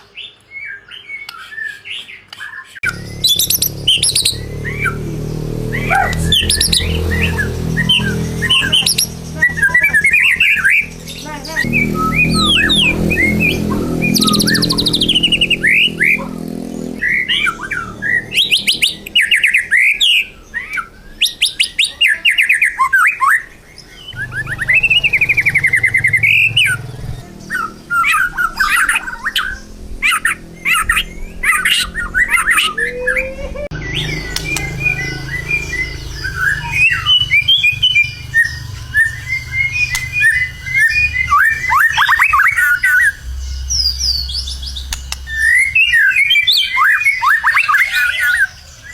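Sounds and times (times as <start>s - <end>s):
bird singing whistles and trills: 0.1s - 48.9s.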